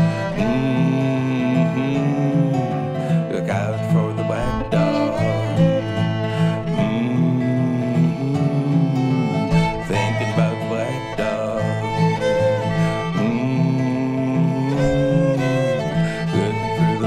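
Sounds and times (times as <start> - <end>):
fiddle melody: 0.0 - 17.0
guitar accompaniment: 0.0 - 17.0.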